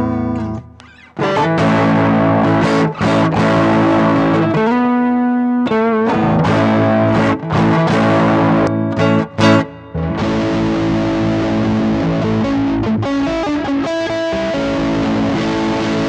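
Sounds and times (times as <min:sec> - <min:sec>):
overdriven electric guitar chords: 0:00.0 - 0:16.0.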